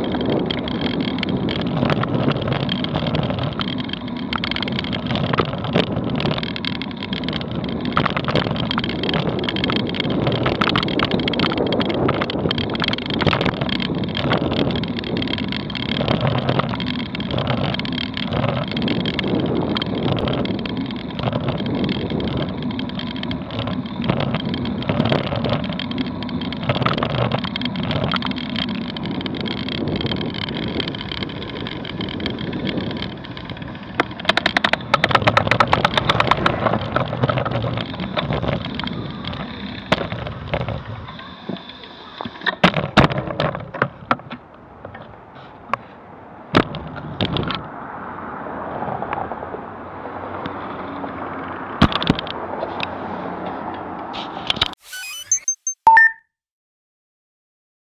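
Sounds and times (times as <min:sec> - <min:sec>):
bicycle rolling over concrete: 0:00.0 - 0:54.8.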